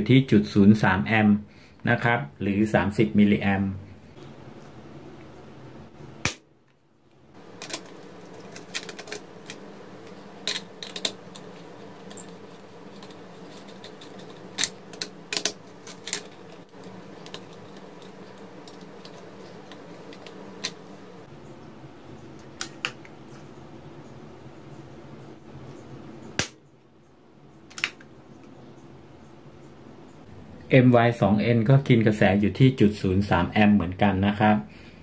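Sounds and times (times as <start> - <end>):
steady low hum: 0.0 - 33.5.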